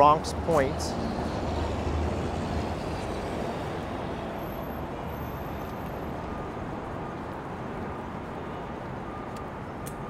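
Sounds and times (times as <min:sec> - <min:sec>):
heavier vehicles passing: 0:00.0 - 0:09.2
passing cars: 0:00.0 - 0:10.0.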